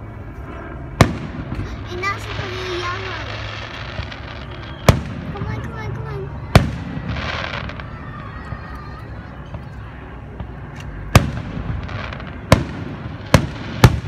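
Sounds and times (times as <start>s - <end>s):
low outdoor background: 0.0s - 14.0s.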